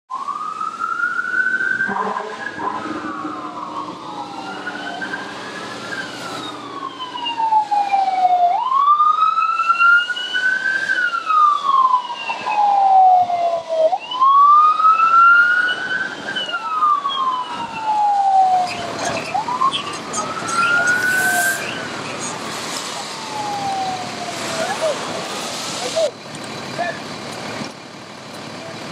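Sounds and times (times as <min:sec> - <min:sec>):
emergency sirens wailing: 0:00.1 - 0:28.9.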